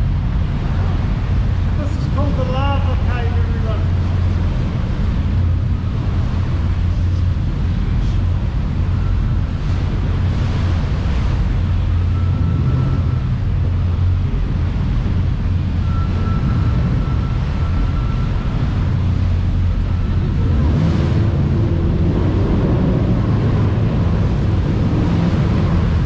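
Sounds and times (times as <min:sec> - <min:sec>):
boat engines running: 0:00.0 - 0:26.0.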